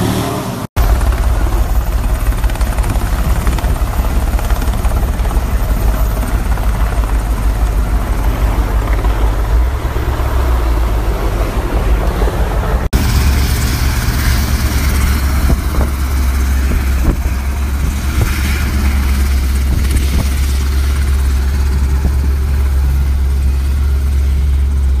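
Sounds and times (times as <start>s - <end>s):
engine droning: 0.0s - 25.0s
rushing noise: 0.0s - 25.0s.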